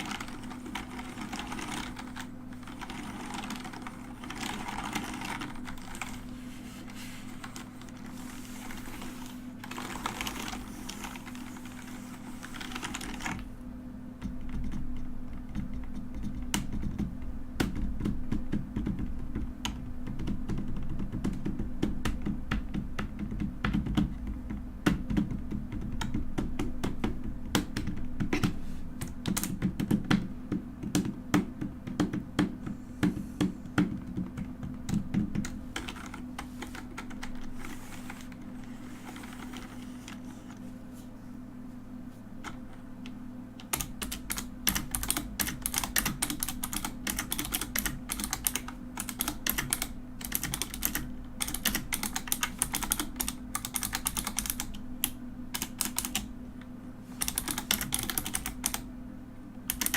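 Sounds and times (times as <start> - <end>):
mechanical keyboard typing: 0.0 - 6.3, 7.4 - 13.4, 14.2 - 32.5, 33.1 - 40.2, 43.6 - 56.3, 57.2 - 58.9.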